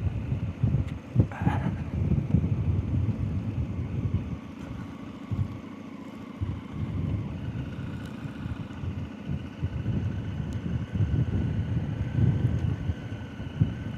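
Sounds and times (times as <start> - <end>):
motorcycle engine rumbling: 0.0 - 13.9.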